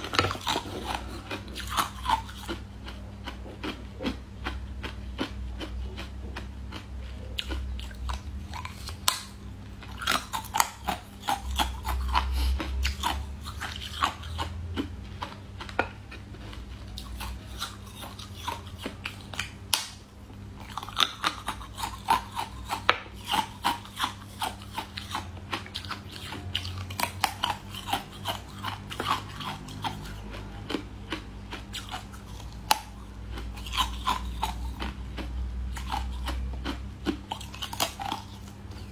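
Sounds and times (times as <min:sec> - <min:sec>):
crunchy chewing of jelly sweet: 0:00.0 - 0:38.9.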